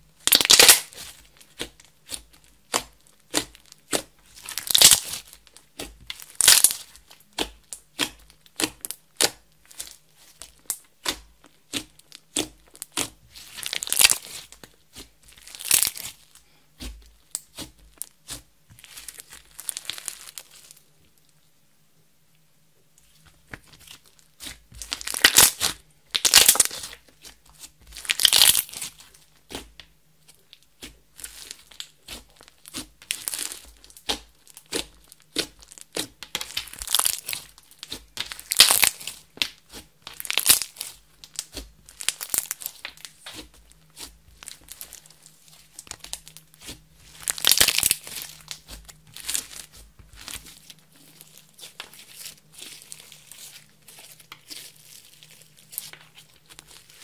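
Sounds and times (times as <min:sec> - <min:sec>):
slime sticky crackling: 0:00.2 - 0:21.3, 0:23.0 - 0:57.0.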